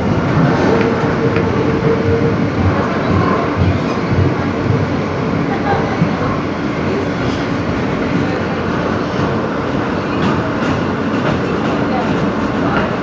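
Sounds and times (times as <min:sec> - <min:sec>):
steel wheels rumbling on rail: 0:00.0 - 0:13.0.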